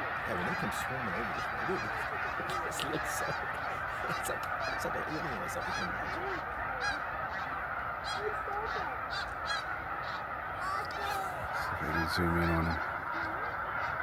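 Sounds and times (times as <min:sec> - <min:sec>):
flock of geese honking: 0:00.0 - 0:14.0.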